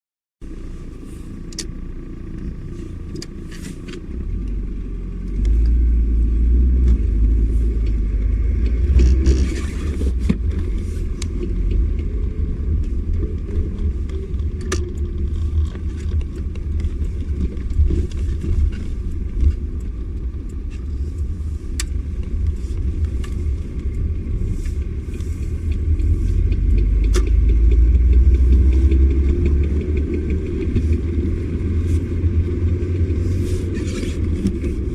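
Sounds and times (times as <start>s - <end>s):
car engine and road rumble: 0.4s - 34.9s.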